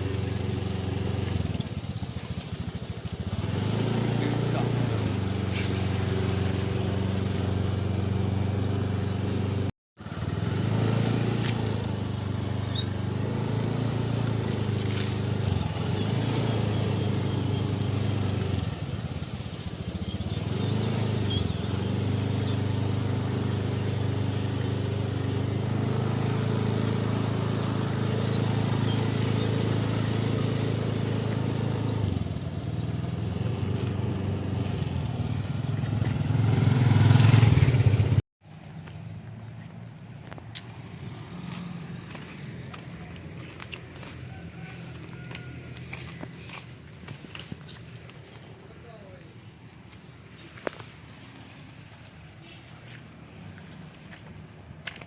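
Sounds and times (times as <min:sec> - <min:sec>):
engine idling: 0:00.0 - 0:49.7.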